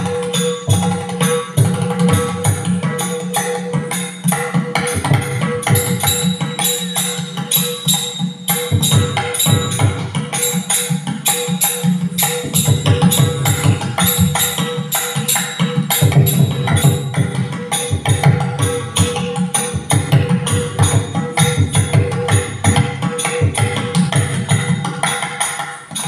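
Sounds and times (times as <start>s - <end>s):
rapid drum strokes: 0.0s - 26.0s
small hand cymbals ringing: 0.0s - 26.0s.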